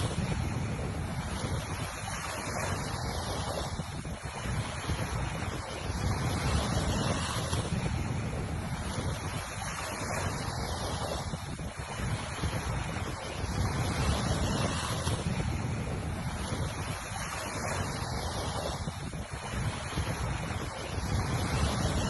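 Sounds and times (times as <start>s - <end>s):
surf washing onto a beach: 0.0s - 22.0s
wind rumbling on microphone: 0.0s - 22.0s.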